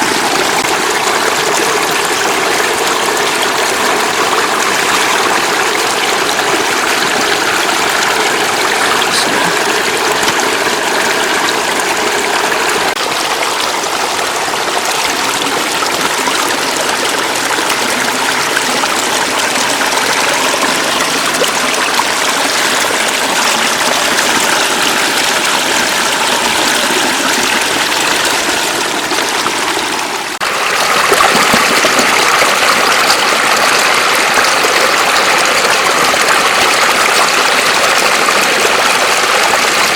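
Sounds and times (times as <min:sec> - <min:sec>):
floodwater rushing and splashing: 0:00.0 - 0:39.9.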